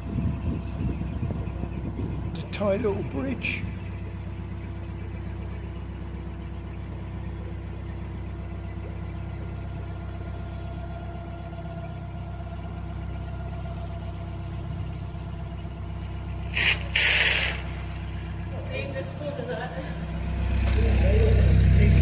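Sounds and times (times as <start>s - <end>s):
diesel engine throbbing: 0.0s - 22.0s.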